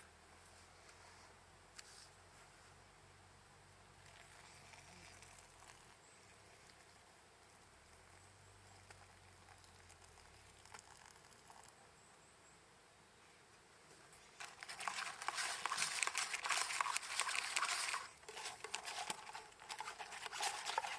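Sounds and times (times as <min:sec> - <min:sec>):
faint hiss: 0:00.0 - 0:20.9.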